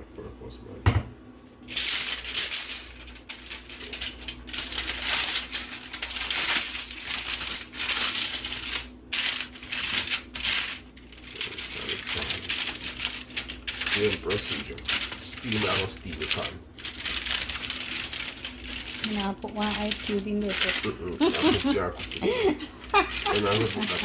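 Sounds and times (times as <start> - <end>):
wrapping material crinkling: 1.6 - 24.0.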